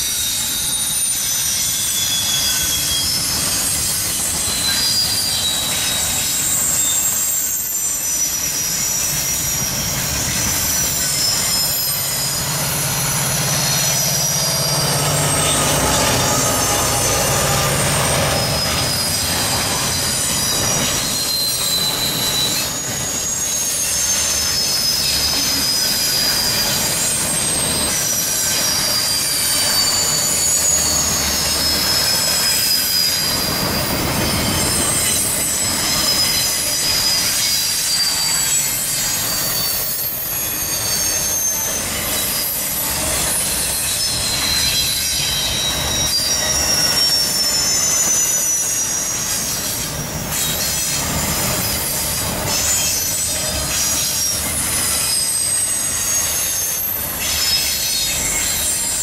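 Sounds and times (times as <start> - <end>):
train rolling rumble: 0.0 - 59.0
train wheels squealing: 0.0 - 59.0.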